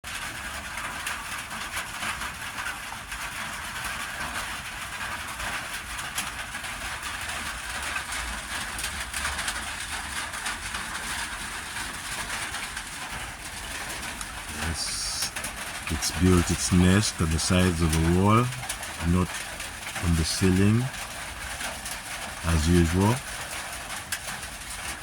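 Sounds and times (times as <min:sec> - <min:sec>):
rain on a metal roof: 0:00.0 - 0:25.0.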